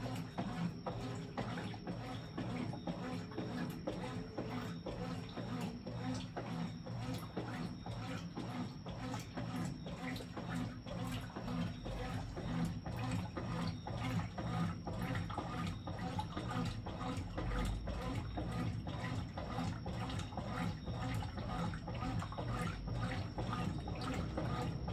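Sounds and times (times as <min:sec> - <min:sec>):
water splashing in washing machine: 0:00.0 - 0:24.9.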